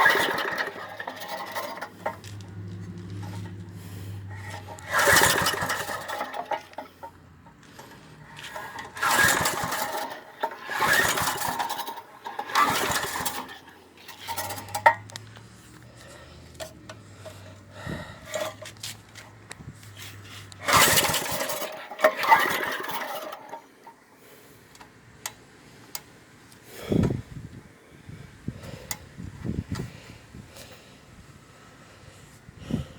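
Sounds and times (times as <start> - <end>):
engine pull-start cranking whir: 0.0 - 32.9.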